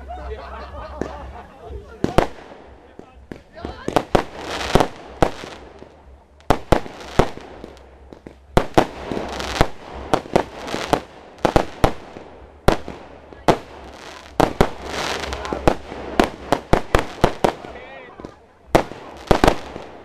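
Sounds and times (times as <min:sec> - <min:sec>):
firework bangs: 0:00.8 - 0:20.0
crackling of bursting stars: 0:02.1 - 0:20.0.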